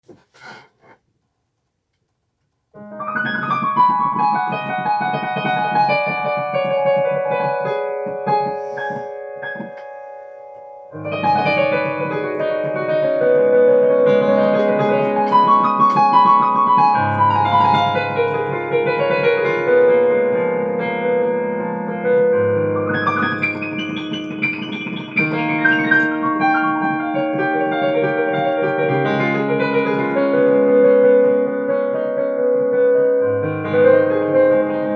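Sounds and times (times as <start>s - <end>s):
piano music: 2.8s - 34.9s.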